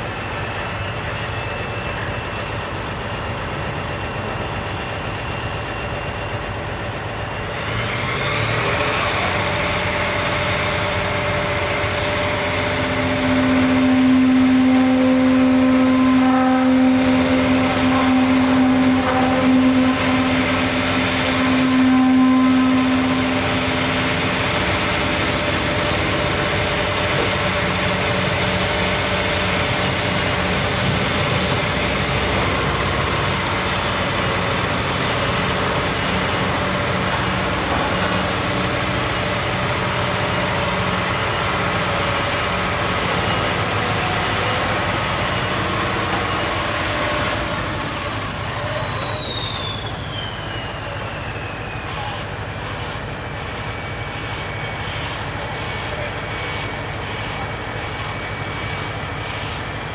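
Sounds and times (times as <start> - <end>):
vibratory hammer drone with whine: 0.0 - 59.9.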